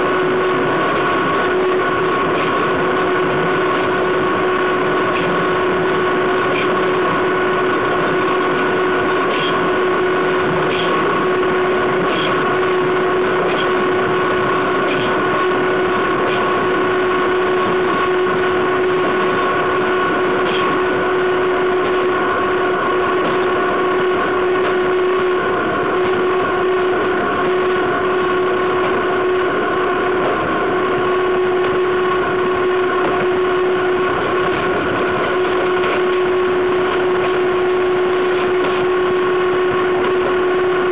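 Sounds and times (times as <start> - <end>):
steady whine: 0.0 - 40.9.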